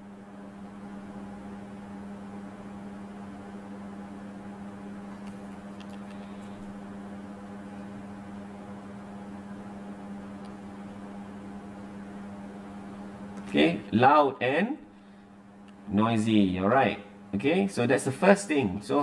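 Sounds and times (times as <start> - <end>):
low equipment hum: 0.0 - 19.0.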